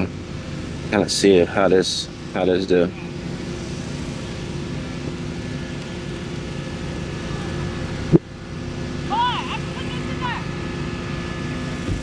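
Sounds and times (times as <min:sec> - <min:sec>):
small fan humming: 0:00.0 - 0:12.0.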